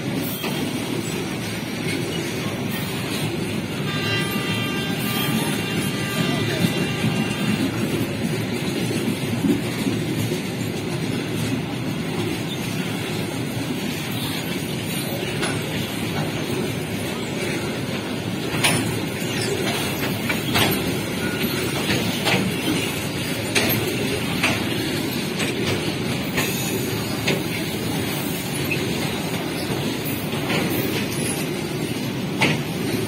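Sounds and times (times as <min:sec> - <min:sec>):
steel wheels rumbling on rails: 0:00.0 - 0:33.0.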